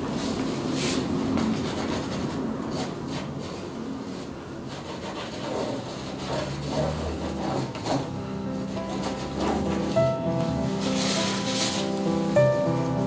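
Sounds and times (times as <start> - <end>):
paintbrush scrubbing canvas: 0.2 - 12.4.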